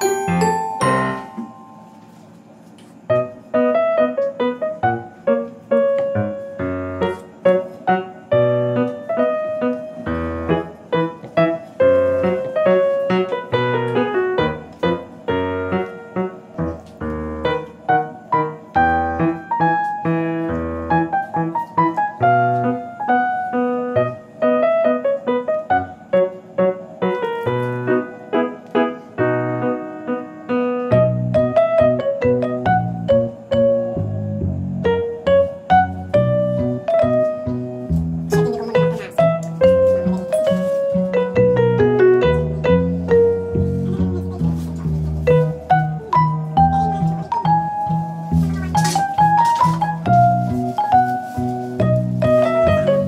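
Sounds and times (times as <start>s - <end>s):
piano music: 0.0s - 53.0s.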